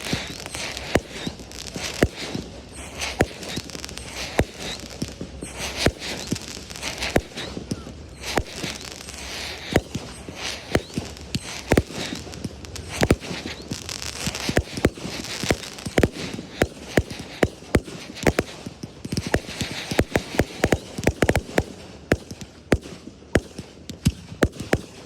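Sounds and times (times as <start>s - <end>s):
fireworks bangs: 0.0s - 25.0s
fireworks pops and crackling hiss: 0.0s - 25.0s.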